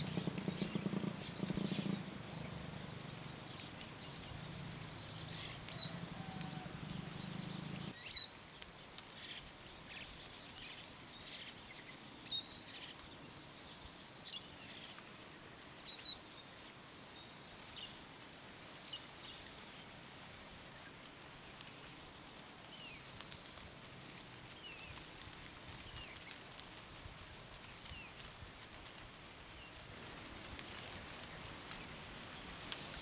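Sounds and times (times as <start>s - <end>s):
faint outdoor hiss: 0.0s - 33.0s.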